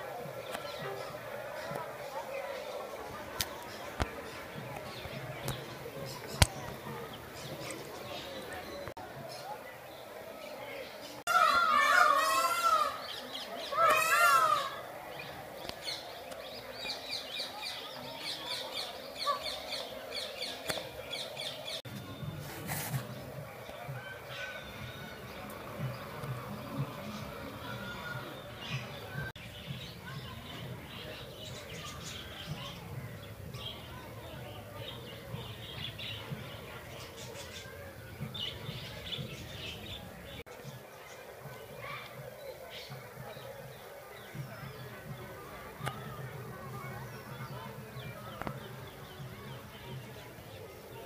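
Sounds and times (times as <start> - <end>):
small birds chirping: 0.3 - 22.3, 23.0 - 51.0.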